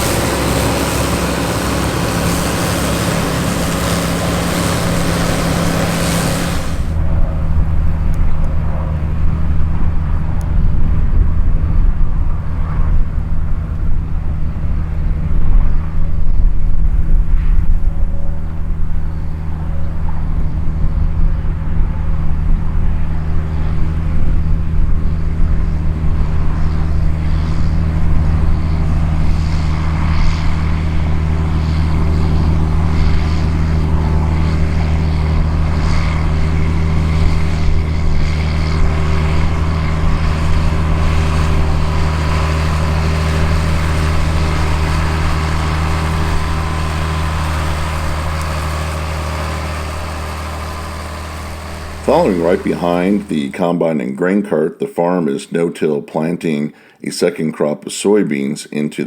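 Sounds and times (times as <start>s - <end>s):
large diesel engine running: 0.0s - 53.7s.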